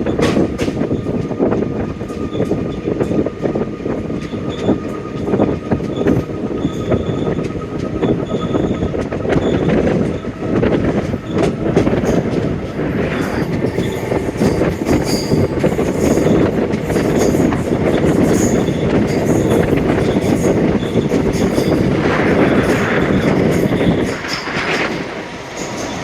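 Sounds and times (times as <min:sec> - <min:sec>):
rail joint clicks: 0:00.0 - 0:26.0
train wheels rumbling on rail: 0:00.0 - 0:26.0
high-pitched wheel squeals: 0:04.2 - 0:26.0.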